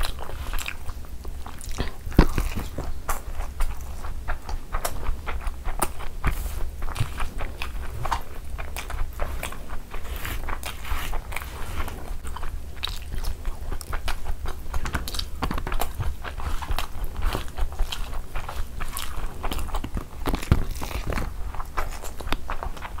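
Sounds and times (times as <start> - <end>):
chewing and wet mouth smacks: 0.0 - 23.0
fingers squishing rice: 0.0 - 23.0.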